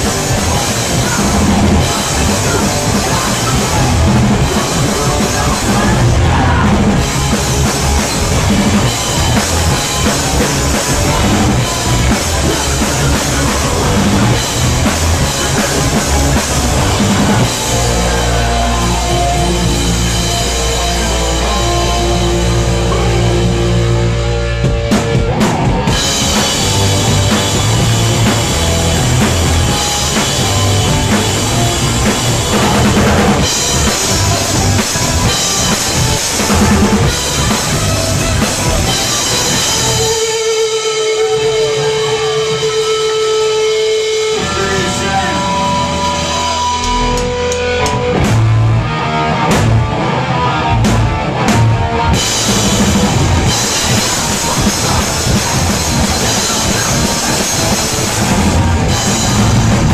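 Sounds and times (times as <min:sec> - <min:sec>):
pounding drums: 0:00.0 - 0:23.9, 0:24.6 - 0:40.7, 0:50.8 - 0:59.9
punk band playing live: 0:00.0 - 0:59.9.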